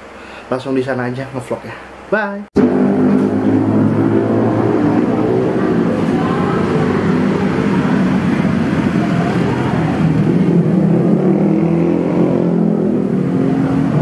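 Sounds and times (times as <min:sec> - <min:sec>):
road traffic engine noise: 0:01.8 - 0:14.0.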